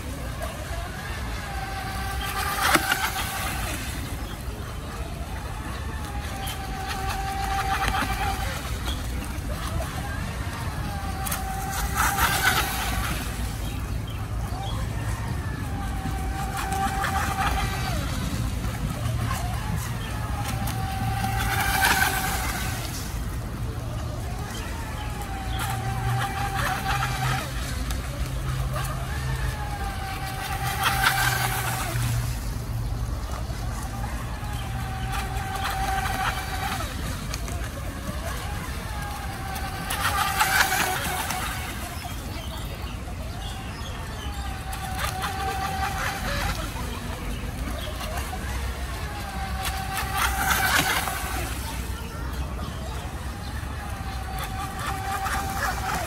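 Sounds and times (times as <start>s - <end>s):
model speedboat motor whine: 0.0s - 56.0s
water rushing burst: 0.0s - 56.0s.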